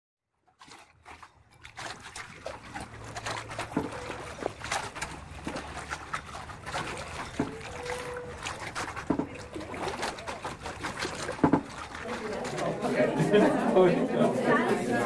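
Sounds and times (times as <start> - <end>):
small waves lapping at shore: 0.6 - 15.0.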